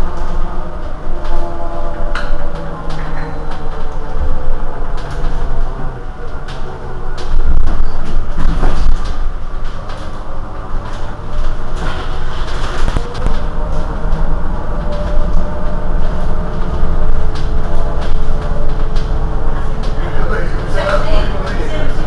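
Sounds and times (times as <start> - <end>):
constant whine: 0.0 - 22.0
electric bus humming: 0.0 - 22.0.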